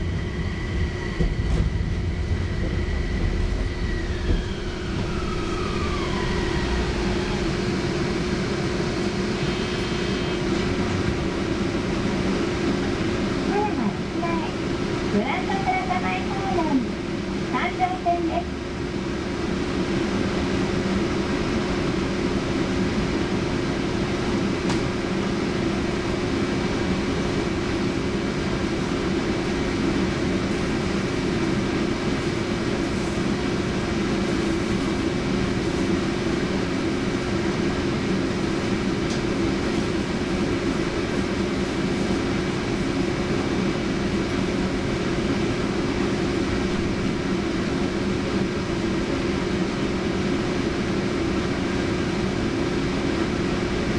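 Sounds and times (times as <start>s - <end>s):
electrical hum: 0.0s - 53.9s
tram wheels on rails: 0.0s - 53.9s.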